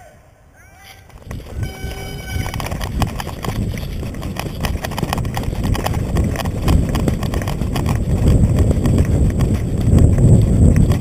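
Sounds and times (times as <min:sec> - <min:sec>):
running footsteps on dirt: 0:01.0 - 0:11.0
steady low rumble: 0:01.2 - 0:11.0.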